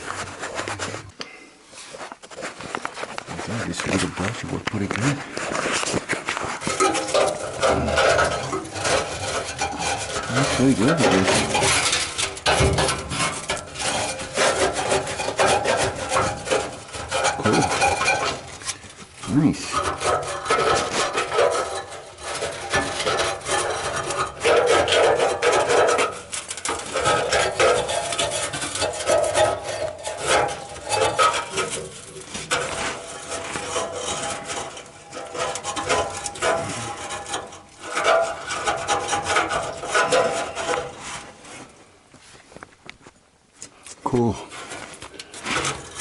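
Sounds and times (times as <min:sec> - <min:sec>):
brush scrubbing and scraping: 0:00.0 - 0:42.6, 0:44.4 - 0:46.0.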